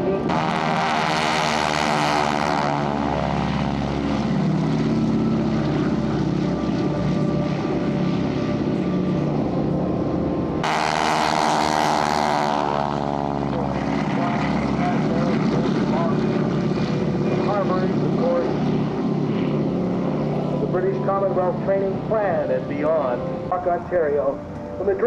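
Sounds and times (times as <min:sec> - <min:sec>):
propeller planes passing low: 0:00.0 - 0:25.0.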